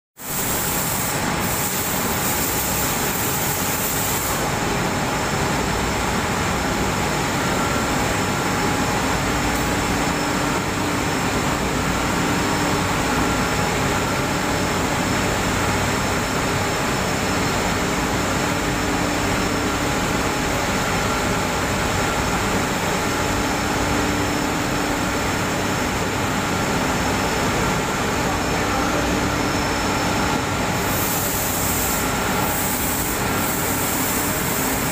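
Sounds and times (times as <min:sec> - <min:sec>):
textile machine running: 0:00.6 - 0:34.9.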